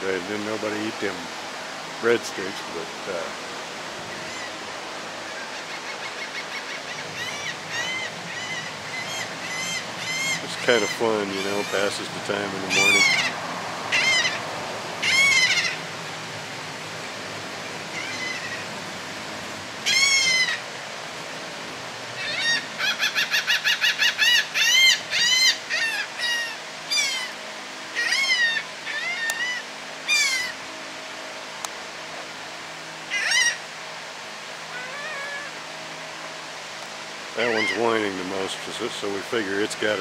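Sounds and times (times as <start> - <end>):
gulls wailing calls: 2.0 - 21.3, 21.9 - 31.5, 32.8 - 36.0, 37.2 - 40.0.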